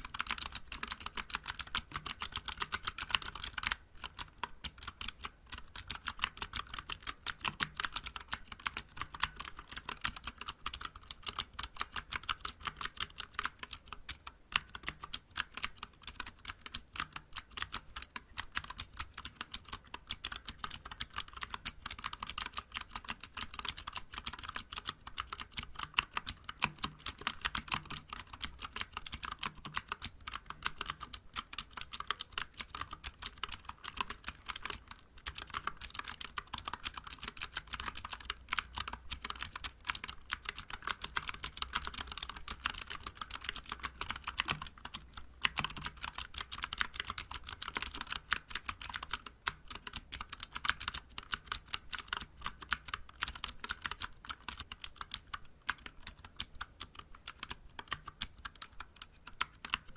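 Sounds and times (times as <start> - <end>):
clicky mechanical keyboard typing: 0.0 - 59.9.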